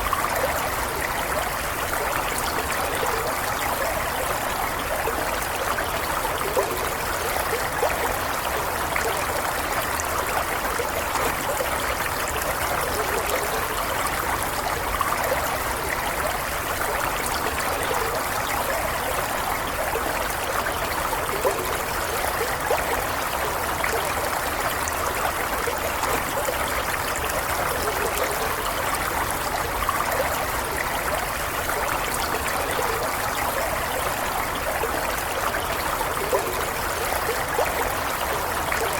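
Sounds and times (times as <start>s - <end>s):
stream water gurgling: 0.0s - 38.9s.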